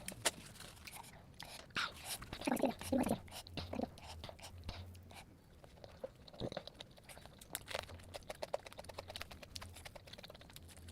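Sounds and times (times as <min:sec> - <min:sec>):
crackly mouth sounds: 0:00.0 - 0:10.9
faint low hum: 0:00.0 - 0:10.9
person chewing: 0:00.0 - 0:10.9.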